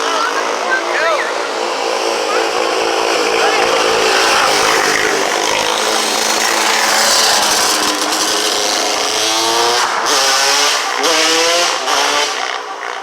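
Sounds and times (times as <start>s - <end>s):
small engine revving hard: 0.0s - 13.0s.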